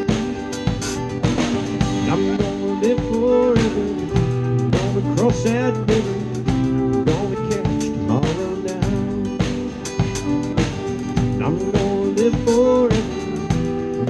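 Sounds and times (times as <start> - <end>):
country band playing: 0.0 - 14.0
sliding guitar lead line: 0.0 - 14.0.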